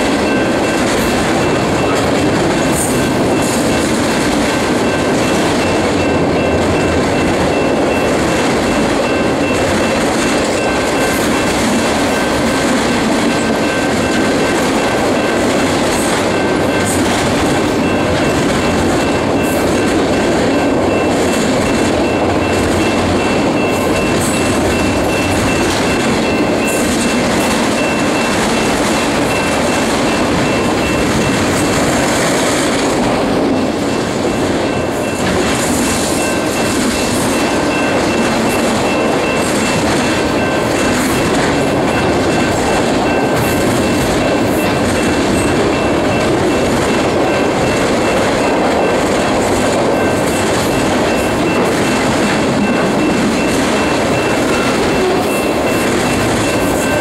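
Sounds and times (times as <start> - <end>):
rail joints clickety-clack: 0.0 - 57.0
train wheels rumbling on rails: 0.0 - 57.0.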